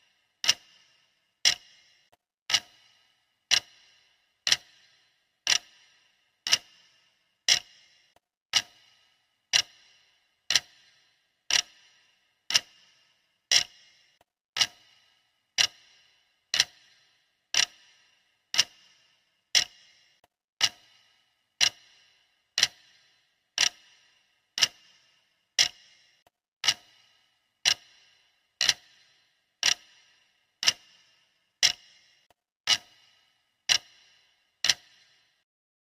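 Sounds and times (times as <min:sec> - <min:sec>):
clock ticking: 0:00.0 - 0:35.5.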